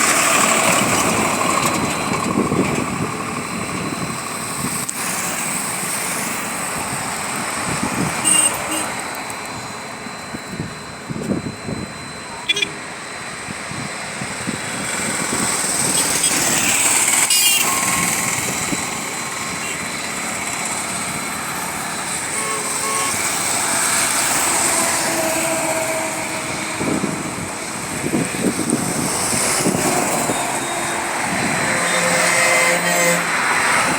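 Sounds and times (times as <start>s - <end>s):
engine noise: 0.0s - 33.9s
high whine: 0.0s - 33.9s.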